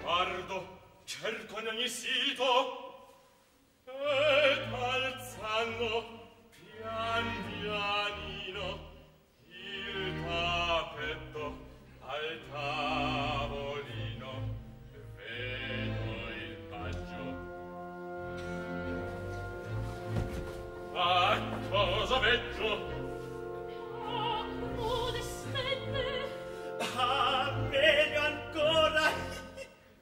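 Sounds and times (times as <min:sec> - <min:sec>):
operatic singing with vibrato: 0:03.8 - 0:18.7, 0:20.6 - 0:30.0
orchestra playing: 0:04.2 - 0:08.9, 0:09.6 - 0:29.7.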